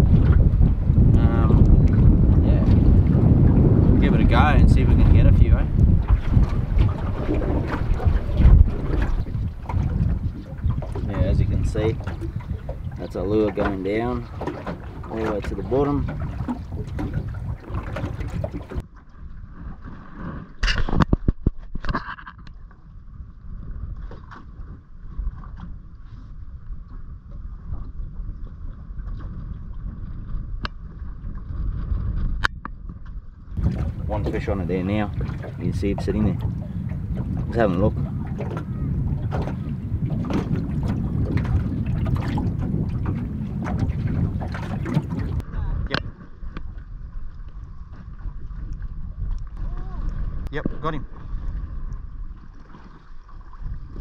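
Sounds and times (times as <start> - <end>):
water around boat: 0.0 - 54.0
wind on microphone: 0.0 - 54.0.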